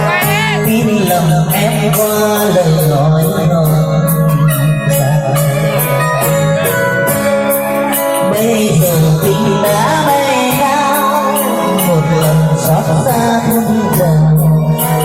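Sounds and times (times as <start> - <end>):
pop song with steady beat: 0.0 - 15.0.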